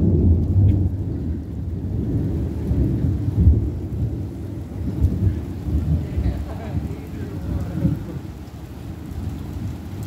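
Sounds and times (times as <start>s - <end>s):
rain: 0.0s - 10.0s
thunder rumbling: 0.0s - 10.0s.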